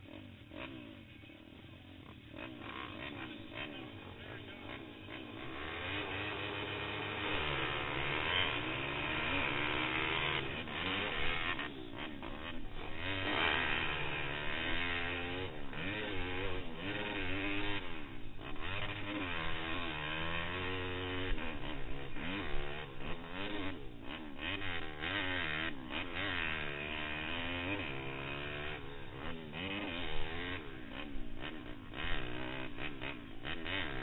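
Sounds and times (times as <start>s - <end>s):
motorbike engine revving: 0.0s - 34.0s.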